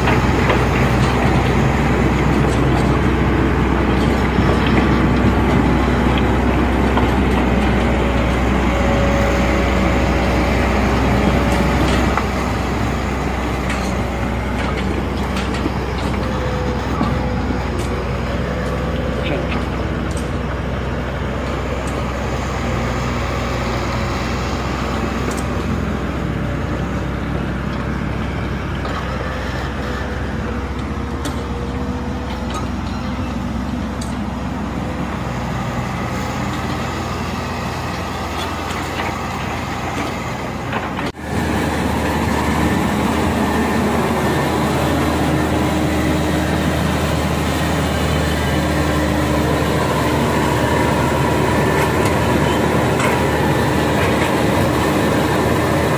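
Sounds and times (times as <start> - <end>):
excavator engine drone: 0.0 - 55.9.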